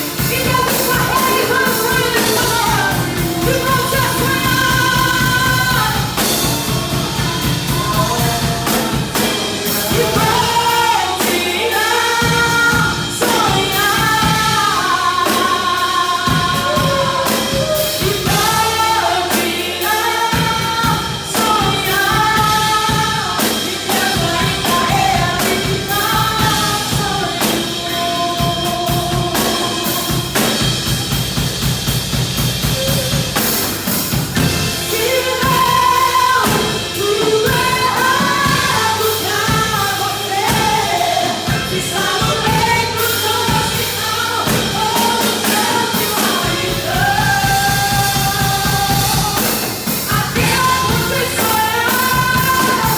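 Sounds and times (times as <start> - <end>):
voices singing: 0.0 - 31.6, 32.3 - 52.9
bass: 0.0 - 52.9
drums: 0.0 - 52.9.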